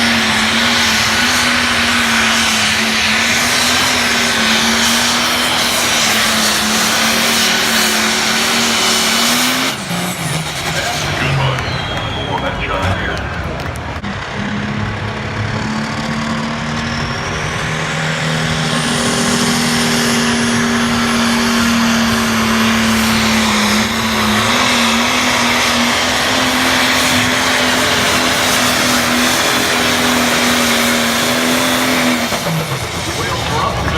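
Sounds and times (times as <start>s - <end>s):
diesel engine at full throttle: 0.0s - 33.9s.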